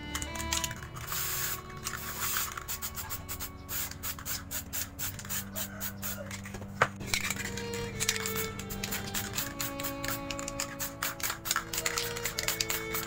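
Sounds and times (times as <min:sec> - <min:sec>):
spray paint can hissing: 0:00.2 - 0:06.4, 0:07.0 - 0:13.0.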